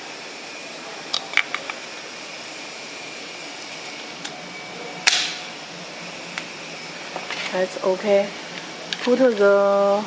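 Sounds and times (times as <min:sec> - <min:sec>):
fan-like background noise: 0:00.0 - 0:10.0.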